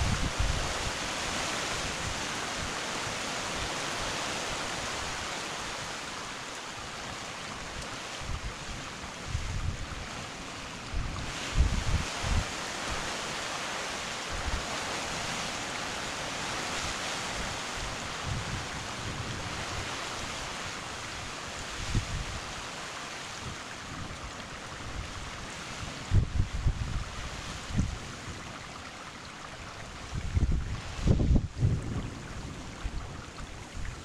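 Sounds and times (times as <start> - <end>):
wind rumbling on microphone: 0.0 - 13.5, 14.1 - 34.0
heavy rain: 0.0 - 34.0.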